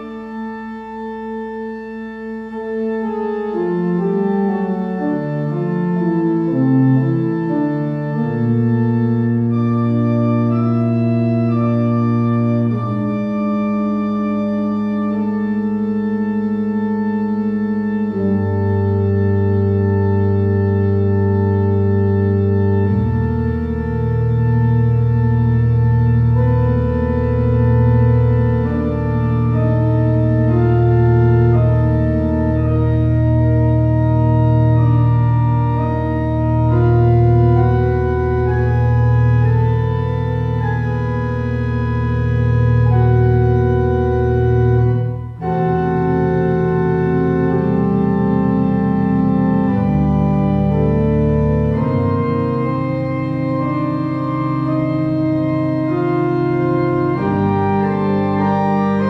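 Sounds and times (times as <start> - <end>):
pipe organ playing held chords: 0.0 - 59.0.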